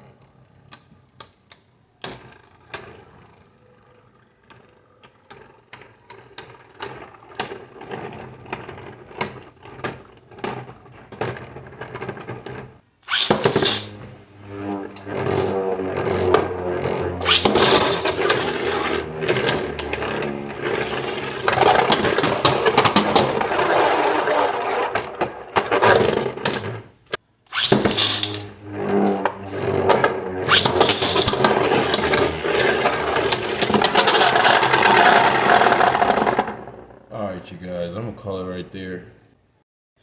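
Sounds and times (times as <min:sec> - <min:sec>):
spinning tops whirring and clacking: 0:02.0 - 0:37.0.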